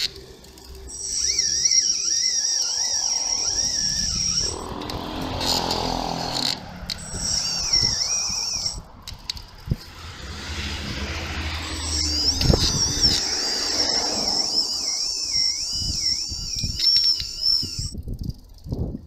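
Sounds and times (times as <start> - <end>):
e-bike high-pitched squeal: 0.0 - 9.0, 9.9 - 18.0.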